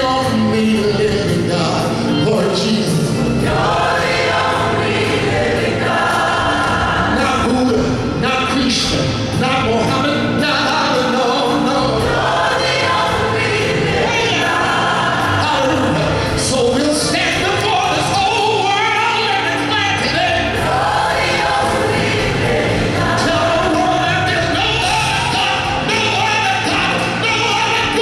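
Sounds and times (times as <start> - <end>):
gospel choir singing: 0.0 - 28.0.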